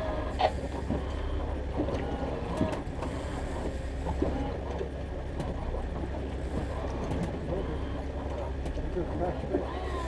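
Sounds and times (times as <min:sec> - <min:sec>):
fishing boat engine rumble: 0:00.0 - 0:10.0.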